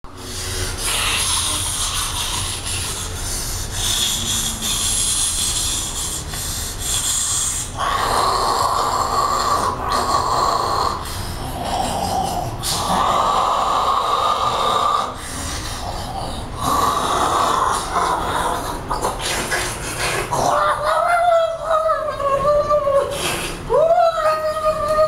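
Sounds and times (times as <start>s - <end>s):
man rasping breaths and snorts: 0.1s - 20.7s.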